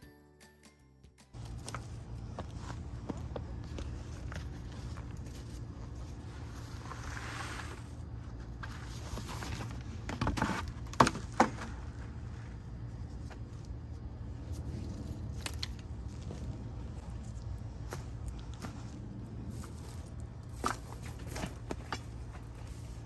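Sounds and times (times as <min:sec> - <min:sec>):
rustling and handling noises: 0:01.4 - 0:23.0
steady low hum: 0:01.4 - 0:23.0.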